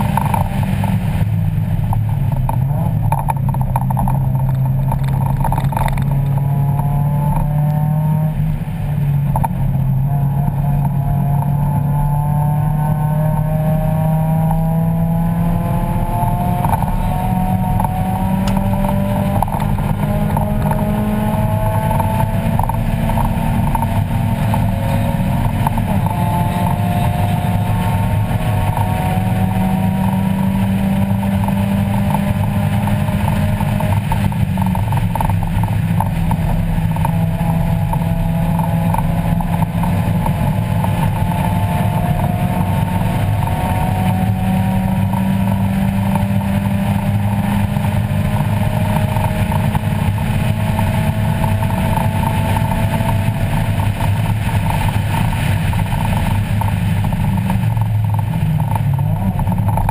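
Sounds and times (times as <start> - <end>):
car engine revving: 0.0 - 59.9
wind noise: 0.0 - 59.9.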